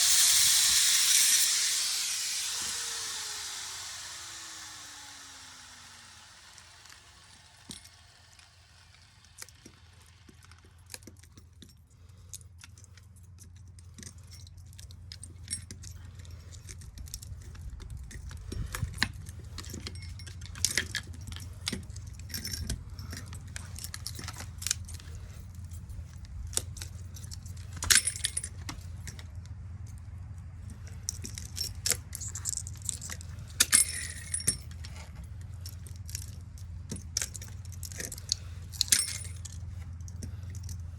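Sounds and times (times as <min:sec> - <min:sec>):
metallic clinks and rattles: 0:06.1 - 0:40.9.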